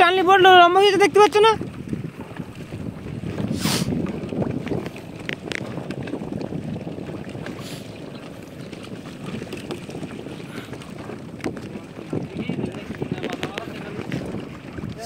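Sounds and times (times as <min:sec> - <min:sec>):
water lapping around boat: 0:00.0 - 0:15.0
wind on microphone: 0:00.0 - 0:15.0.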